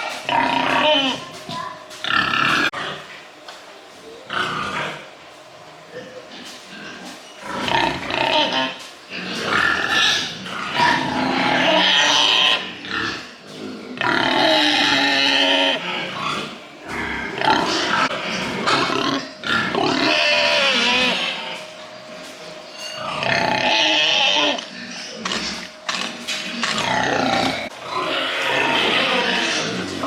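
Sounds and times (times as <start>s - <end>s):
pigs squealing and grunting: 0.0s - 1.4s, 2.0s - 3.1s, 4.2s - 5.2s, 5.9s - 21.7s, 22.8s - 30.0s.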